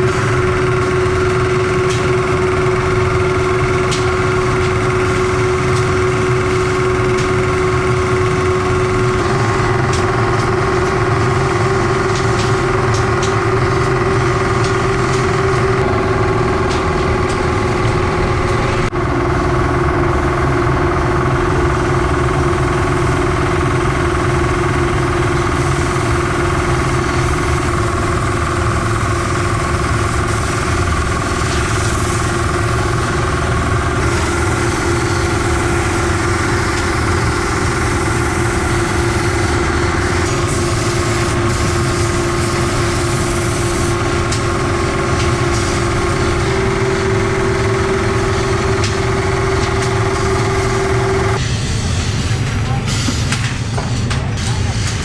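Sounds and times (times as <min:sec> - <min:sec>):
workshop machinery motor hum: 0:00.0 - 0:55.0.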